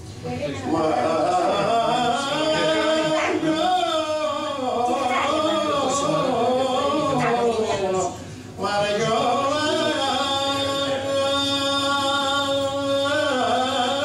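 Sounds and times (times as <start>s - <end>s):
man singing a slow lament: 0.7s - 14.0s.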